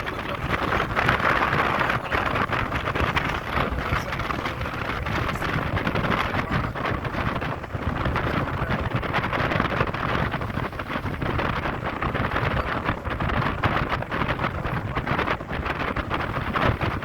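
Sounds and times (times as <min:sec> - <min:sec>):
low road and traffic rumble: 0:00.0 - 0:17.0
wind buffeting microphone: 0:00.0 - 0:17.0.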